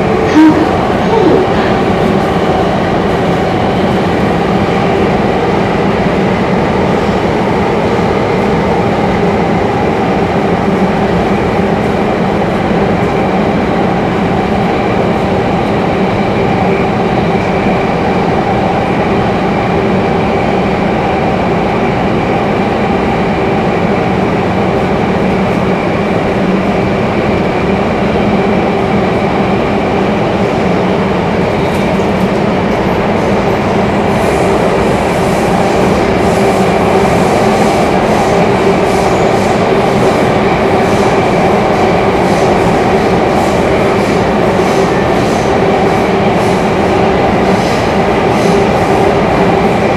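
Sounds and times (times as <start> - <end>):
train motor hum: 0.0 - 49.9
train wheels rumbling on rail: 0.0 - 49.9.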